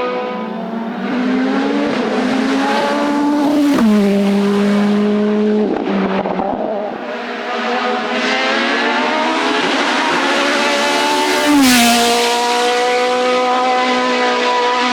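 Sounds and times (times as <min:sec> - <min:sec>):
race car engine at full throttle: 0:00.0 - 0:14.9.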